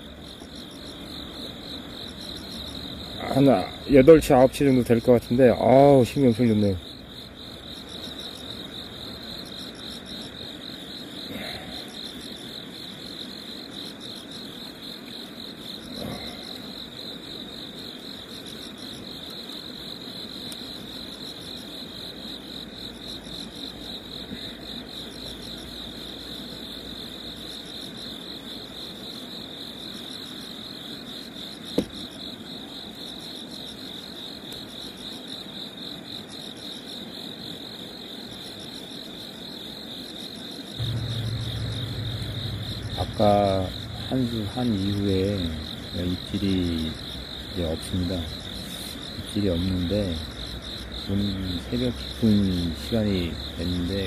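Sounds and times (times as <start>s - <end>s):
night insects trilling: 0.0s - 54.0s.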